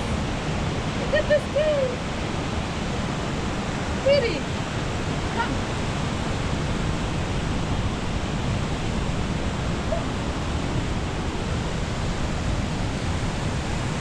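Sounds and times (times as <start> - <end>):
ocean surf rushing: 0.0 - 14.0.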